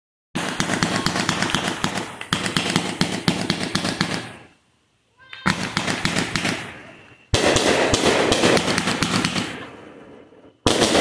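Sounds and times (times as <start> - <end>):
firework fountain hissing and crackling: 0.4 - 11.0.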